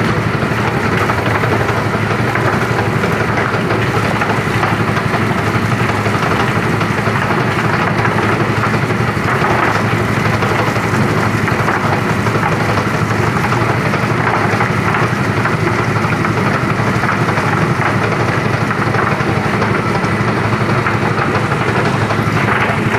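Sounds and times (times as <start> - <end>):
plucking machine running: 0.0 - 22.9.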